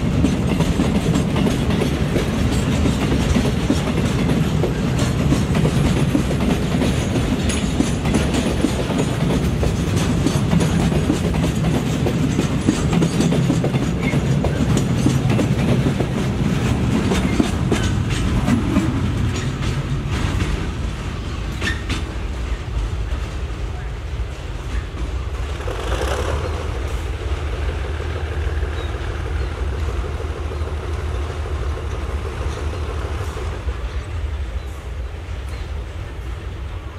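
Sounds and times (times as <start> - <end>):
wheels clattering over rail joints: 0.0 - 34.1
freight train wagons rumbling: 0.0 - 36.9.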